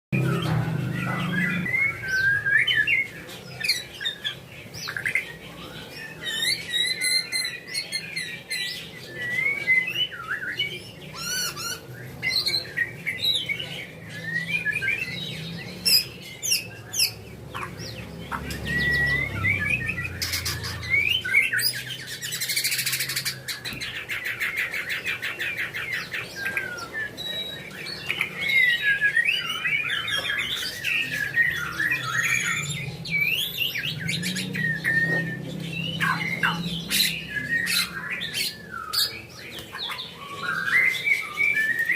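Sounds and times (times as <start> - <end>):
bird singing whistled song: 0.2 - 17.7, 18.4 - 41.9.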